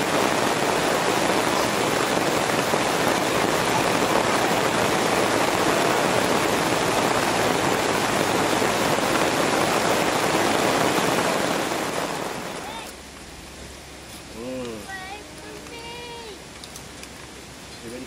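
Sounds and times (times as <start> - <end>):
rain on a tarp: 0.0 - 18.0.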